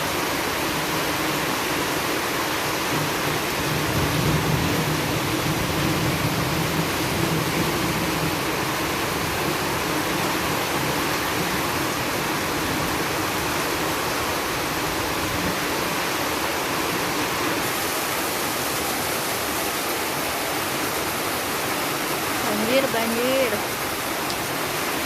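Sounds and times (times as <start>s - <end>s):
pouring rain: 0.0s - 25.0s
running floodwater: 0.0s - 25.0s.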